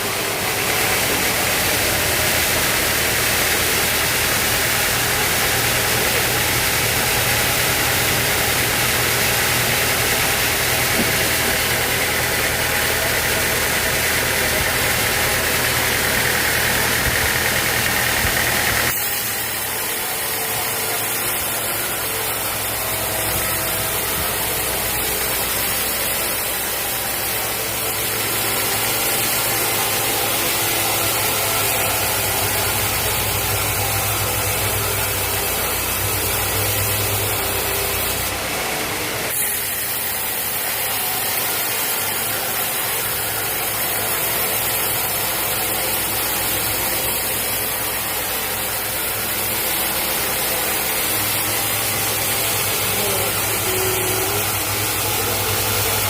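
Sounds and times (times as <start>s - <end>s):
machinery hiss: 0.0s - 56.0s
sawmill machinery hum: 0.0s - 56.0s.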